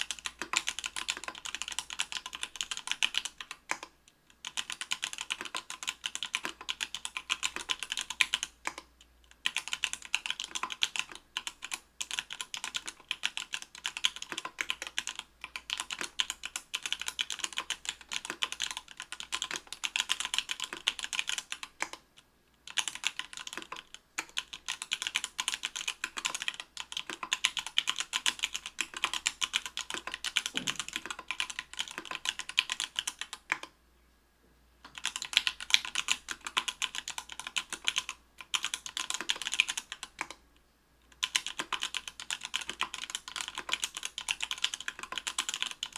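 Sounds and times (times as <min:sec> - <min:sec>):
fast typing on mechanical keyboard: 0:00.0 - 0:22.0, 0:22.6 - 0:33.7, 0:34.9 - 0:40.4, 0:41.1 - 0:45.9.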